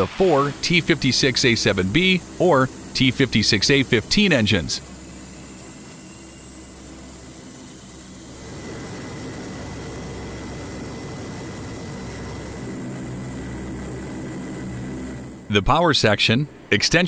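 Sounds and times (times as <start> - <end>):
thin high whine: 0.0 - 17.0
turboprop engines droning: 0.0 - 17.0.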